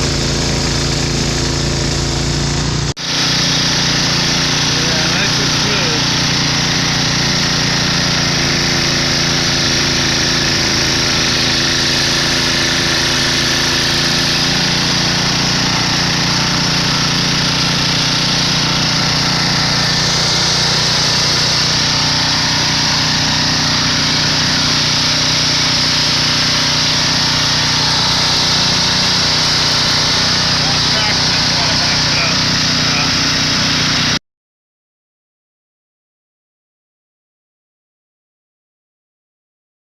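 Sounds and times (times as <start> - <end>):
snowblower engine running: 0.0 - 34.2.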